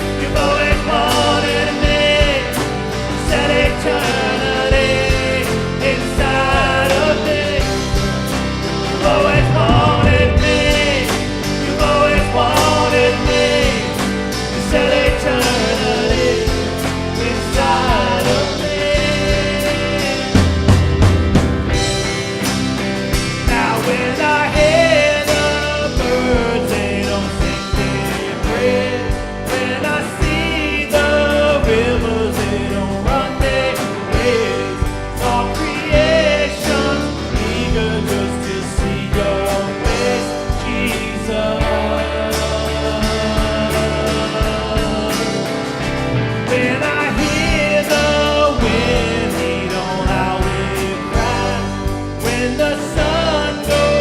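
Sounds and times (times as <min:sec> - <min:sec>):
person singing: 0:00.0 - 0:20.9, 0:23.3 - 0:54.0
drum kit: 0:00.0 - 0:54.0
guitar: 0:00.0 - 0:54.0.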